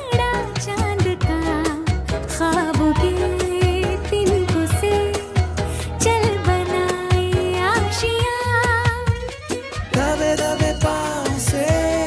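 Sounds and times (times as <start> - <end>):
ornamented instrumental melody: 0.0 - 12.0
steady drum beat: 0.0 - 12.0.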